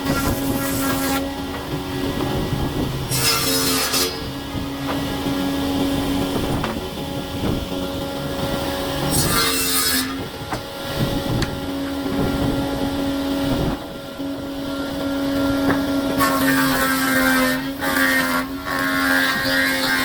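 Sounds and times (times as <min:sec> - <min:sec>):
power tool motor hum: 0:00.0 - 0:20.0.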